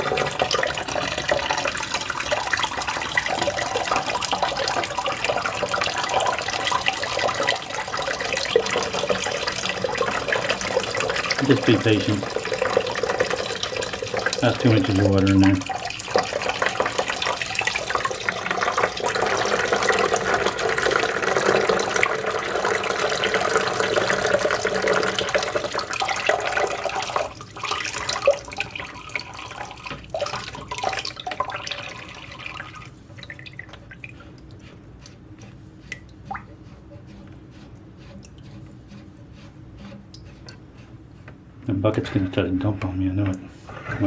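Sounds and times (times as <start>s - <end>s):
water dripping: 0.0s - 36.6s
water pouring into bucket: 0.0s - 36.6s.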